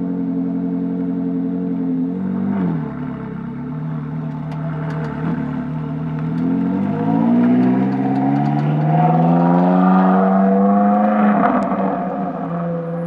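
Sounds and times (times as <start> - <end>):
race car engine pulling away: 2.2 - 13.0.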